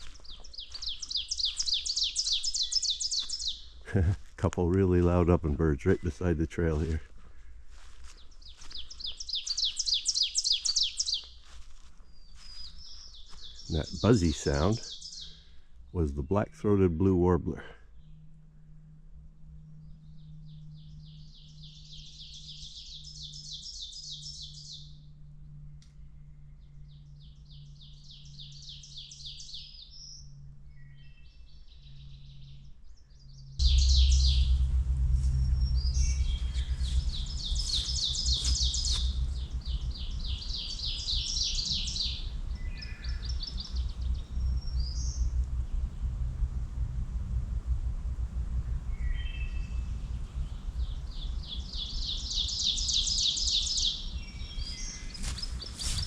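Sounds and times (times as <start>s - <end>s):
low rumbling noise: 0.0s - 28.7s, 33.4s - 56.0s
ovenbird song: 0.0s - 56.0s
woodland birdsong: 0.0s - 56.0s.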